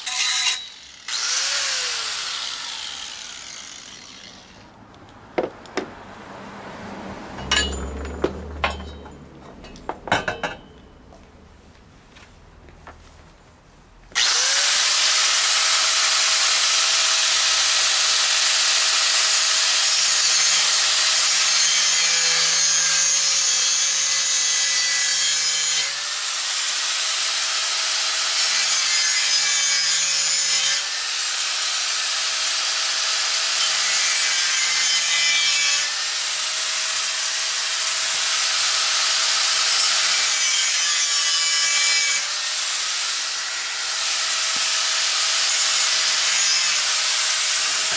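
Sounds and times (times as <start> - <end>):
angle grinder cutting metal: 0.0 - 4.7, 14.2 - 47.9.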